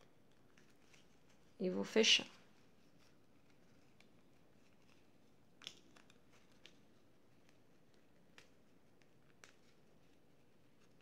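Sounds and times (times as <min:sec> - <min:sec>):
ribbon rustling and ticking: 0:00.0 - 0:11.0.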